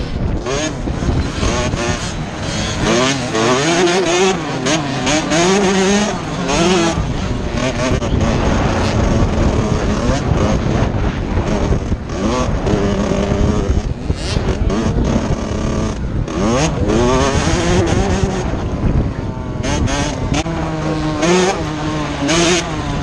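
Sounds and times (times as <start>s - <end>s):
dirt bike engine revving: 0.0s - 23.0s
wind buffeting microphone: 0.0s - 23.0s.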